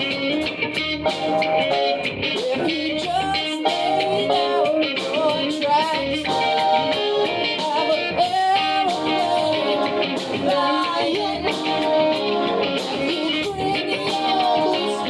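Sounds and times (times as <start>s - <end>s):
song with singing and band: 0.0s - 15.0s.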